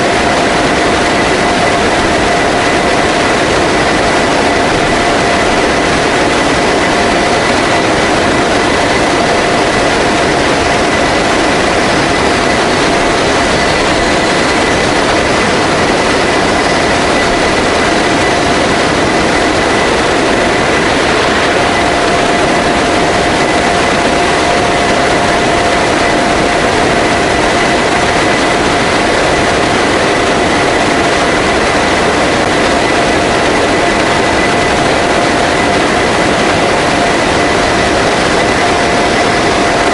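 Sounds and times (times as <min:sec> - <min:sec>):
constant whining tones: 0:00.0 - 0:39.9
rushing air: 0:00.0 - 0:39.9
turboprop engines roaring: 0:00.0 - 0:39.9.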